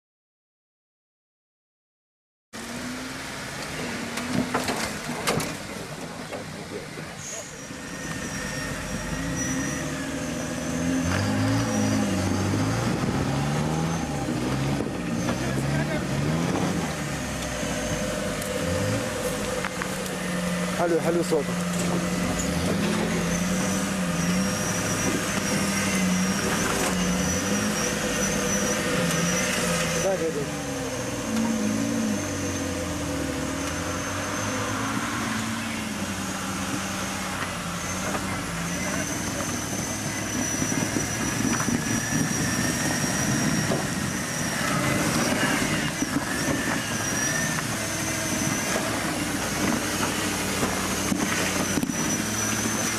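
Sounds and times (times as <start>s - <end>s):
car engine revving: 2.6s - 52.9s.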